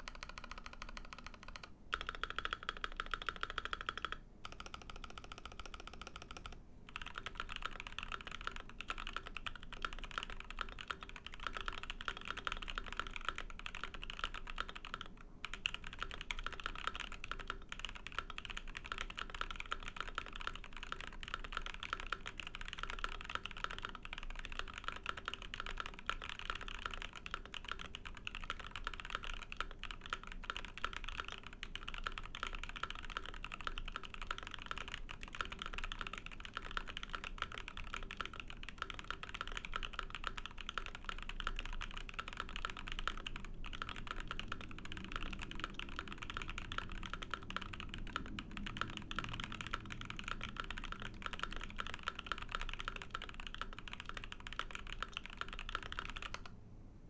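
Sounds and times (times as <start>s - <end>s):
mechanical keyboard typing: 0.0s - 56.5s.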